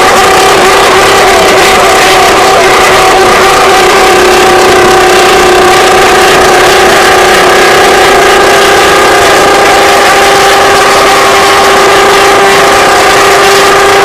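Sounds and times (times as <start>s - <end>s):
motorcycles revving high: 0.0s - 14.0s.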